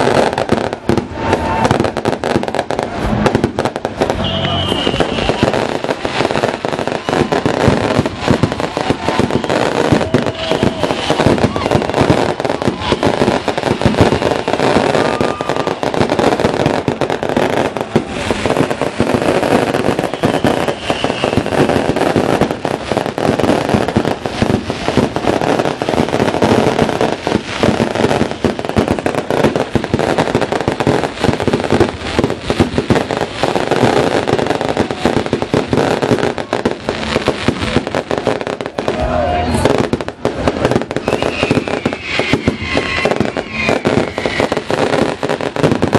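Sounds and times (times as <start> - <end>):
fireworks popping and crackling: 0.0 - 45.9.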